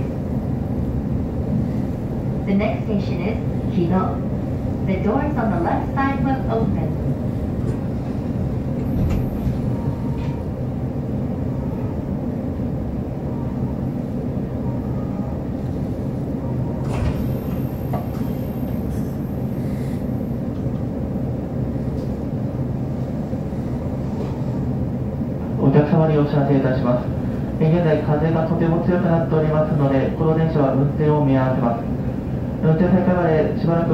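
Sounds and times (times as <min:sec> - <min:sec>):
train low rumble: 0:00.0 - 0:33.9.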